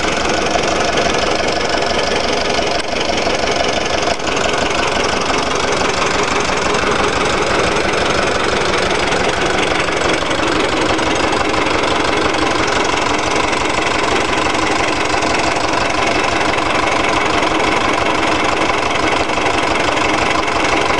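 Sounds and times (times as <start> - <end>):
stationary diesel engine running: 0.0 - 20.9.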